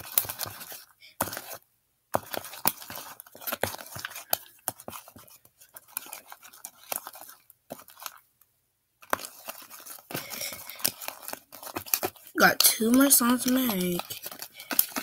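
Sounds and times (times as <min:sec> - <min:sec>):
fingers squishing slime: 0:00.0 - 0:08.2, 0:09.0 - 0:15.0.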